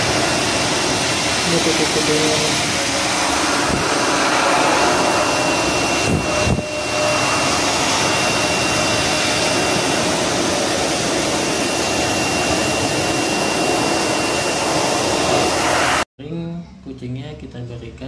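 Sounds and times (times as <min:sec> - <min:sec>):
hair dryer blowing: 0:00.0 - 0:16.1.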